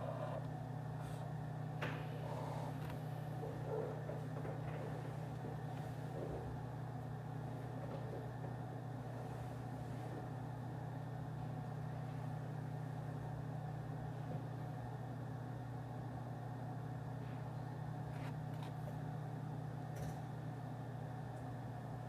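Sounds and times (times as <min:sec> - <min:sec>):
office room hum: 0:00.0 - 0:22.0.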